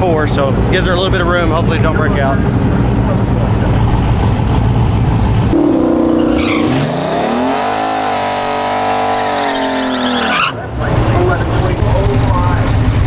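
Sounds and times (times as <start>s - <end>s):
drag car engine revving: 0.2s - 13.0s.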